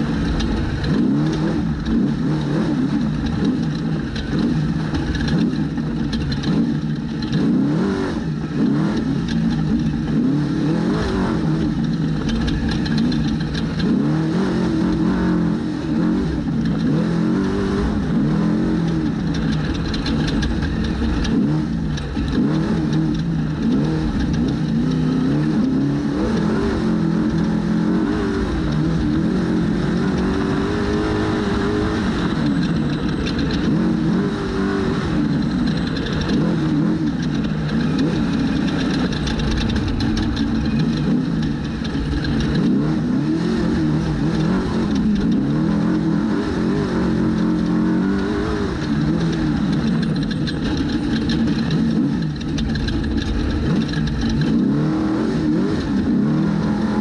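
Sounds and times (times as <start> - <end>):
steady rush of noise: 0.0 - 57.0
truck engine revving: 0.0 - 57.0.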